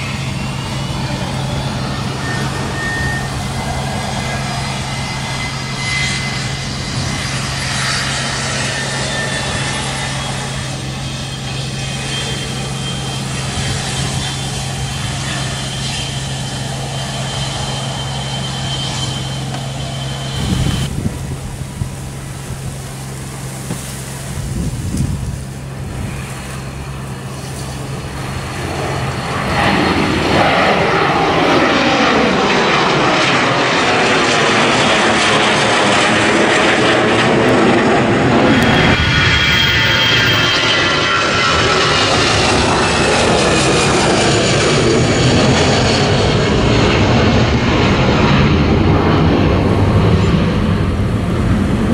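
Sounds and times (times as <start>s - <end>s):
jet engines whining: 0.0s - 51.9s.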